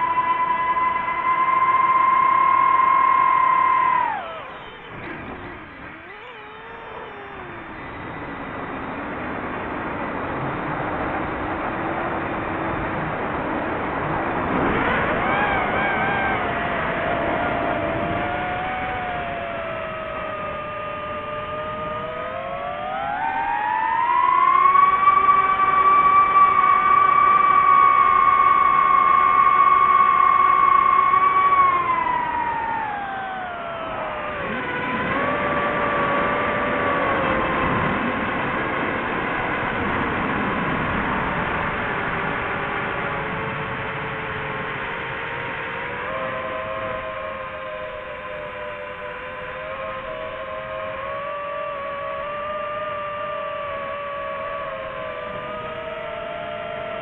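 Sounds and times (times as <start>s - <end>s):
drone motors whining: 0.0s - 57.0s
rushing noise: 0.0s - 57.0s.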